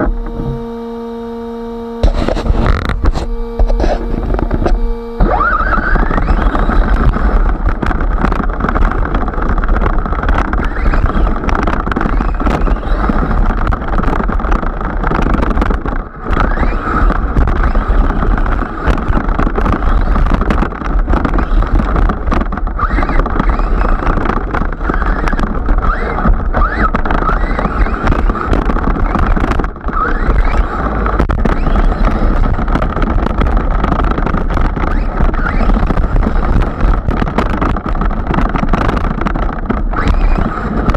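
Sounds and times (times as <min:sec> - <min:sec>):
rc truck motor whine: 0:00.0 - 0:40.9.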